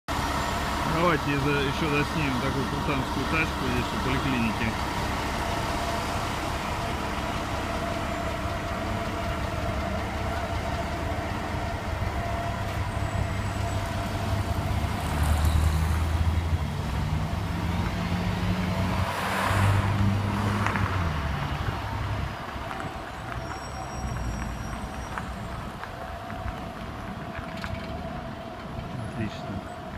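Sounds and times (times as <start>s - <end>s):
street traffic: 0.0s - 29.9s
car engine running low: 0.1s - 29.9s.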